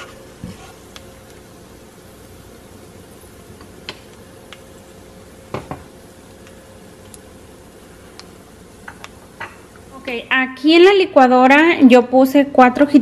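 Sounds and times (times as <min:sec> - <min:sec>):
garlic sizzling in oil: 0:00.0 - 0:10.9.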